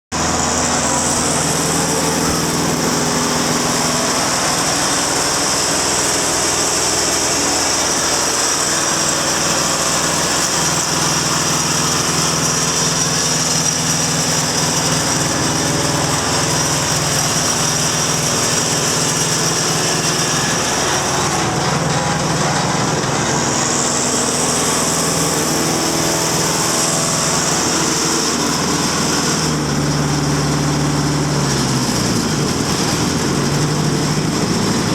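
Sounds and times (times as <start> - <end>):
diesel engine running steadily: 0.1 - 34.9.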